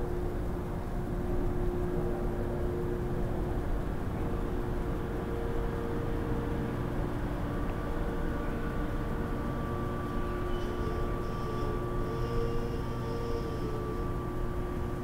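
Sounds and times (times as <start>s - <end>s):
steady tones: 0.0s - 15.0s
train equipment hum: 0.0s - 15.0s.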